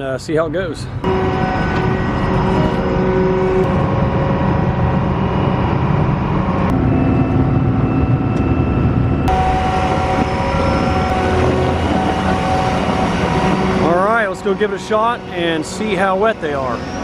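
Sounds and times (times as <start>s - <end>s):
heavy farm machinery engine hum: 0.6s - 17.0s.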